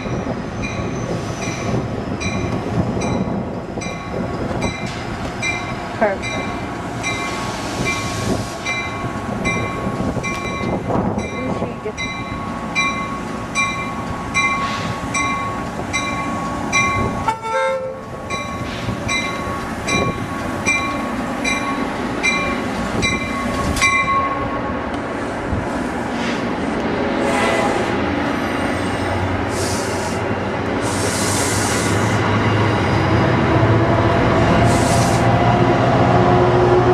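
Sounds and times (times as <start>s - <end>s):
train rumble: 0.0s - 36.9s.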